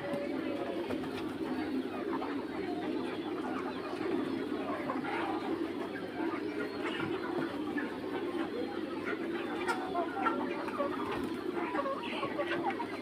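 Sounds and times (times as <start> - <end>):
chicks clucking and chirping: 0.0 - 13.0.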